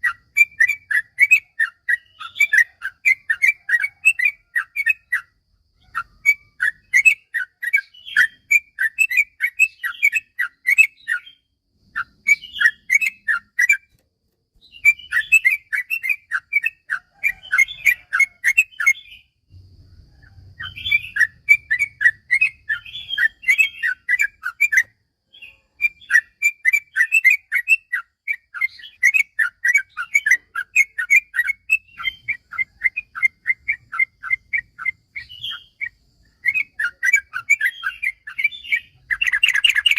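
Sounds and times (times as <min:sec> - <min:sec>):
bird singing chattering notes: 0:00.0 - 0:19.5, 0:20.5 - 0:39.9.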